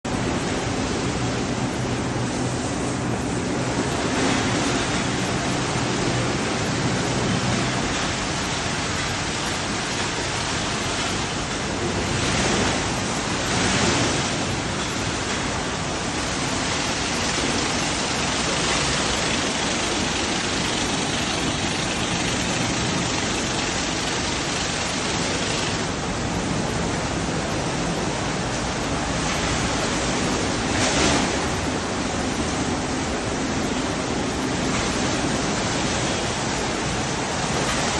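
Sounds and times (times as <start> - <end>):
car wash water jets spraying: 0.1 - 37.9.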